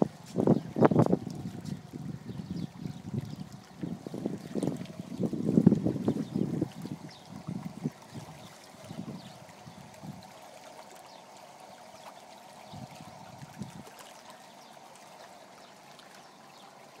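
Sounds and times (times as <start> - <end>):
hot tub water churning and bubbling: 0.0 - 17.0.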